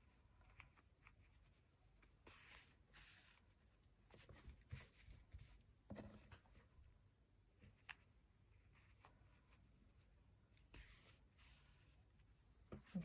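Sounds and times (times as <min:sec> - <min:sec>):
faint rustling of fabric and paper: 0:00.0 - 0:13.0.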